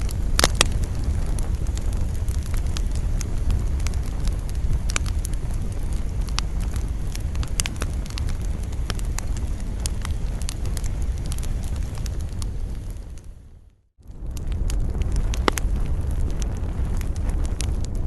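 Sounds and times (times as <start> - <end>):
campfire crackling and popping: 0.0 - 18.0
low wind rumble: 0.0 - 18.0.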